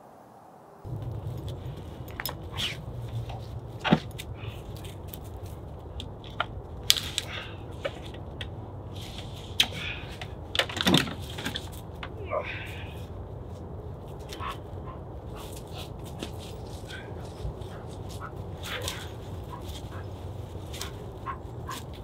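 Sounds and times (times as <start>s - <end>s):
dry leaves rustling: 0.8s - 22.0s
steady low rumble: 0.9s - 22.0s.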